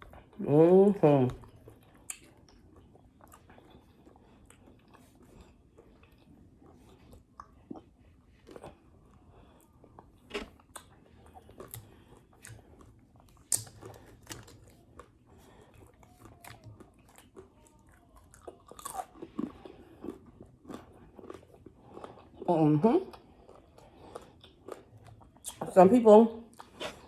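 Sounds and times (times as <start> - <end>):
person chewing crunchy food: 1.4 - 22.5, 23.1 - 25.6, 26.5 - 27.0.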